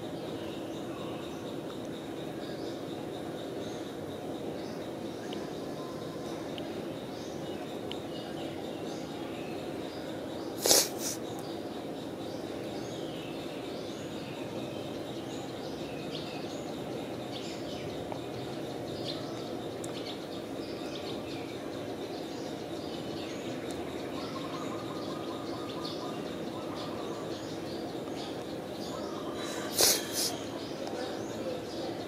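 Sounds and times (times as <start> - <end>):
small birds chirping: 0.0 - 32.0
steady background hum: 0.0 - 32.0.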